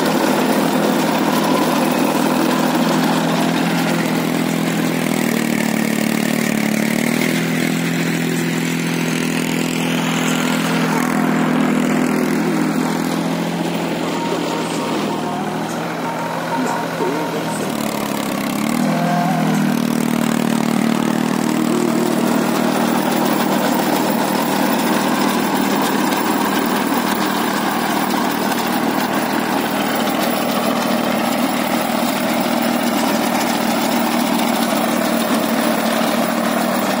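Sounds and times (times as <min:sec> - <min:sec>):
rotavator blades churning soil: 0:00.0 - 0:37.0
tractor engine under load: 0:00.0 - 0:37.0.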